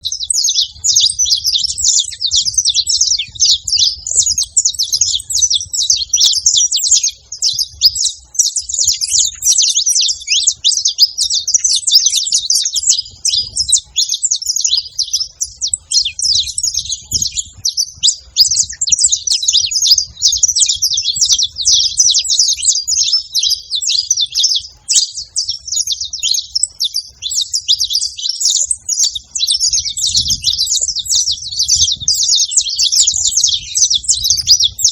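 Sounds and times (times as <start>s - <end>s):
flock of finches chirping: 0.0s - 34.9s.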